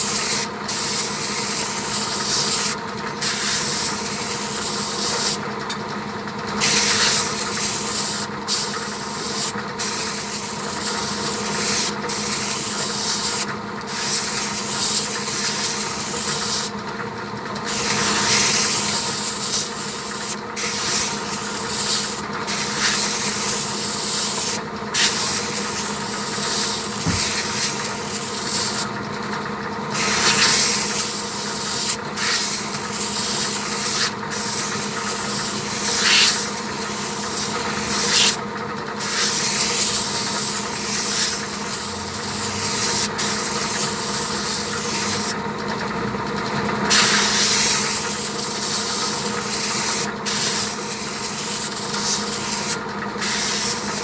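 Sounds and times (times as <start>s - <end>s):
compressed air hissing: 0.0s - 5.4s, 6.6s - 16.7s, 17.7s - 28.9s, 29.9s - 38.4s, 39.0s - 45.4s, 46.9s - 54.0s.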